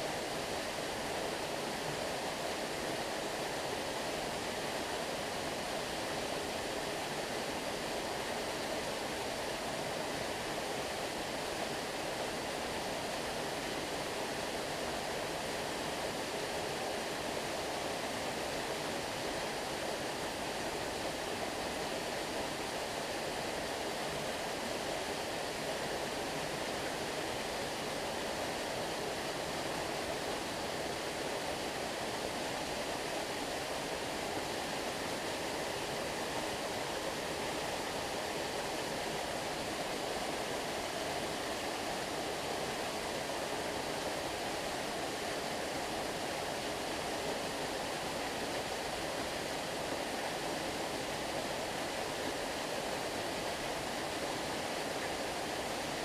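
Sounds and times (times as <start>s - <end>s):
flowing stream water: 0.0s - 56.0s.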